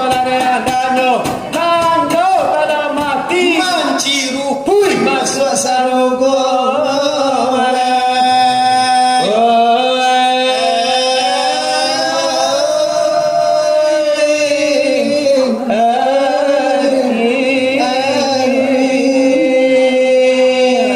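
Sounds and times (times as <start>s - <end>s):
man chanting devotional lines: 0.0s - 20.9s.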